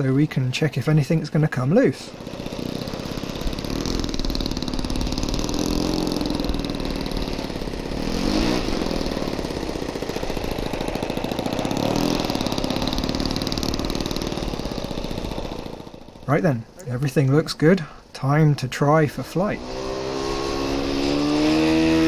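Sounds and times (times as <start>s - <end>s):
model plane engine revving: 0.8s - 22.0s.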